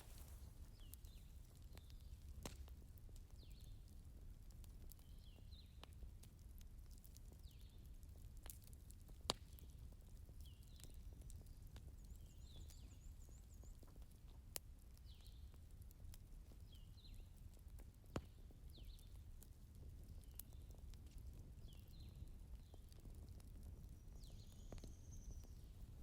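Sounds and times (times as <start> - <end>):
fire popping: 0.0 - 26.0
wood fire crackling: 0.0 - 26.0.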